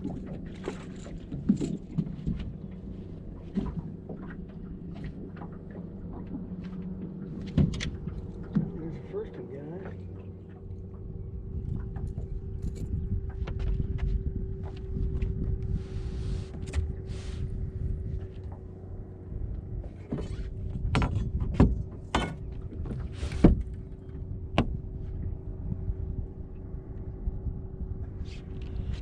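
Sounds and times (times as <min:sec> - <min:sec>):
wind and water rumbling: 0:00.0 - 0:29.0.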